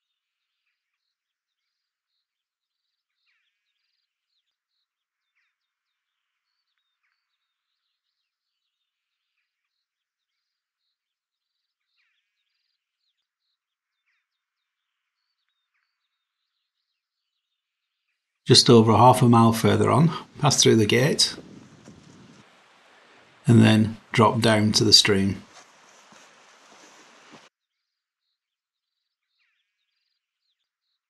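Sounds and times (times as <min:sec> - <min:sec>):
faint birdsong chirps and trills: 0:00.0 - 0:31.0.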